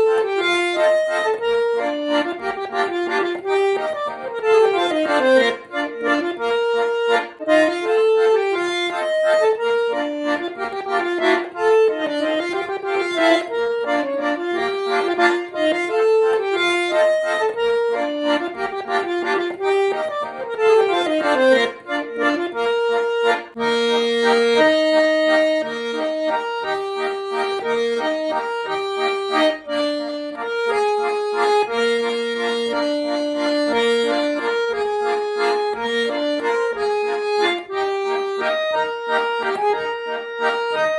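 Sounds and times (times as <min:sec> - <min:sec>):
button accordion folk tune: 0:00.0 - 0:40.9.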